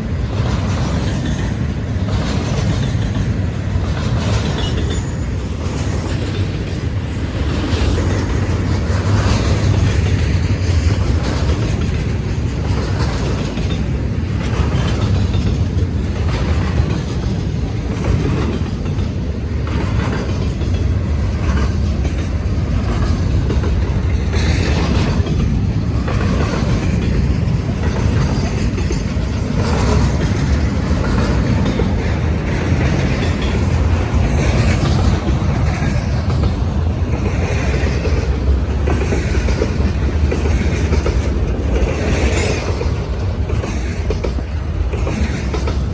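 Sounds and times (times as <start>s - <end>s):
freight train rumble: 0.0s - 45.9s
wheels clacking over rail joints: 0.0s - 45.9s.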